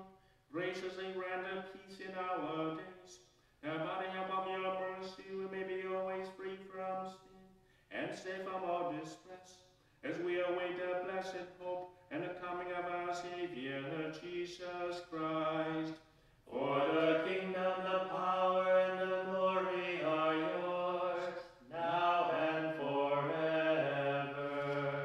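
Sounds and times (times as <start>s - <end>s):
man chanting a prayer: 0.5s - 25.0s.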